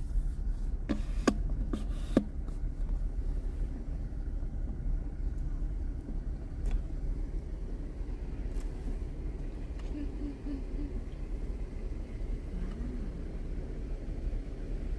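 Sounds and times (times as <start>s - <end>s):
car engine and tyres rumbling: 0.0s - 14.9s.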